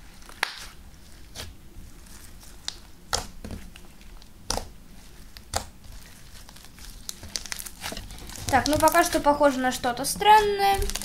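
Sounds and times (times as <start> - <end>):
slime squished by hand: 0.1 - 9.3, 10.2 - 11.0.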